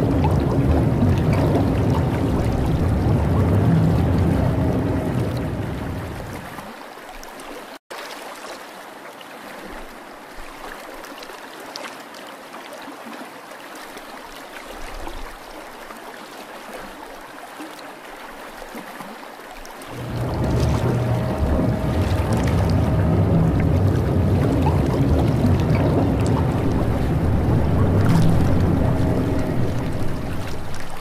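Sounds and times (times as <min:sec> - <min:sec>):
water trickling and gurgling: 0:00.0 - 0:31.0.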